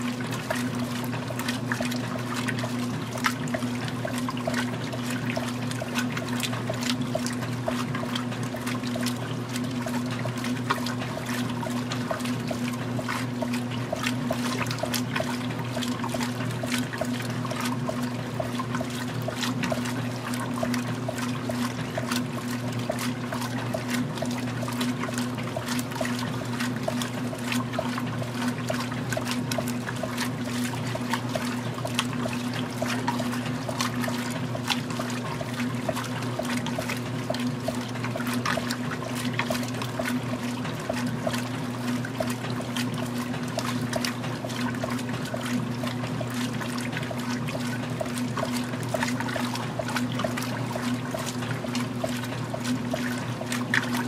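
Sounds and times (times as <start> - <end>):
washing machine motor hum: 0.0 - 54.0
washing machine water sloshing: 0.0 - 54.0.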